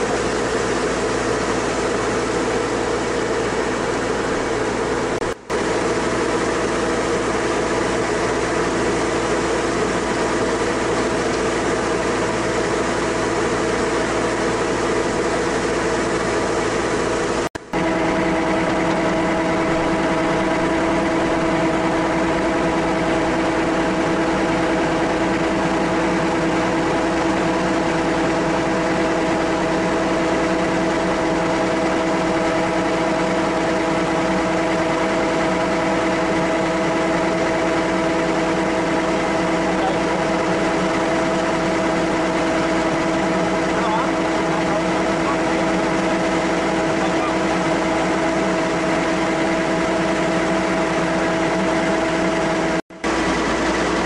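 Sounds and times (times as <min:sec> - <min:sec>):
auger discharging grain: 0:00.0 - 0:54.0
diesel engine running: 0:00.0 - 0:54.0.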